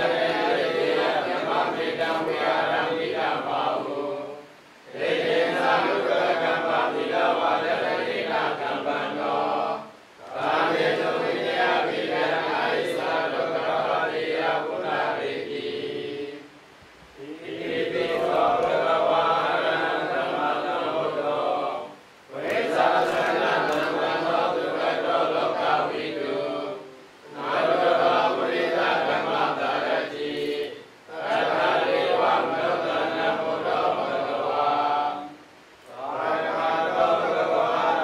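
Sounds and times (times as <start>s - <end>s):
monks chanting in unison: 0.0s - 16.5s, 17.2s - 38.0s.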